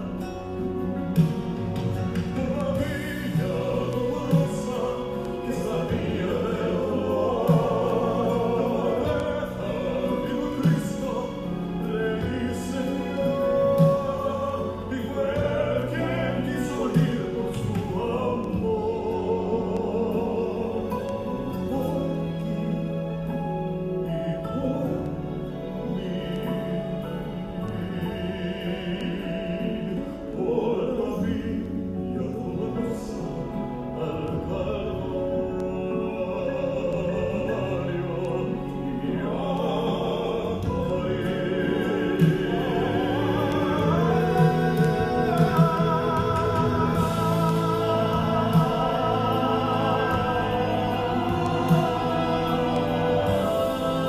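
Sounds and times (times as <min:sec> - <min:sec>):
instrumental accompaniment: 0:00.0 - 0:54.0
sung church song: 0:00.0 - 0:54.0.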